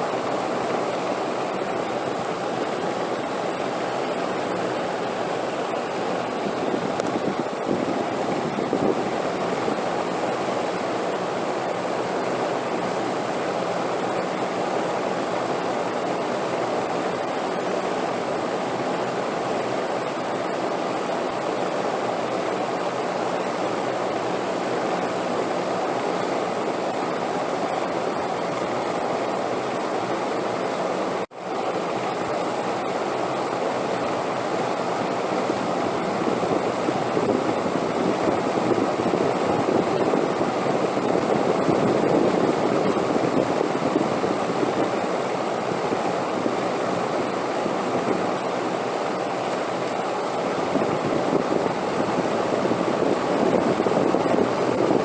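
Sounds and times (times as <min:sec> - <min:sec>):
rushing wind: 0:00.0 - 0:55.0.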